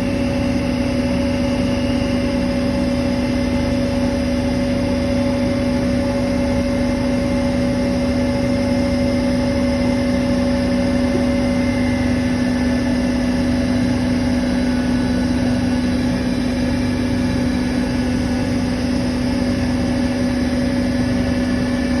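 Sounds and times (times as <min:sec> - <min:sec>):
refrigeration compressor humming: 0:00.0 - 0:22.0.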